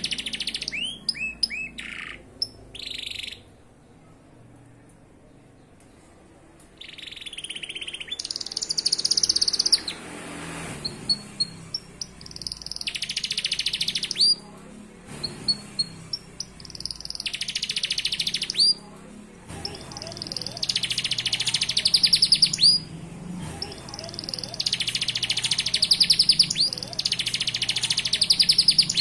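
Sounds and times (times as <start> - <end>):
canary singing trills: 0.0 - 3.7, 6.8 - 10.1, 10.8 - 14.5, 15.2 - 18.9, 19.5 - 29.0
canary chirps: 0.0 - 4.3, 6.6 - 29.0.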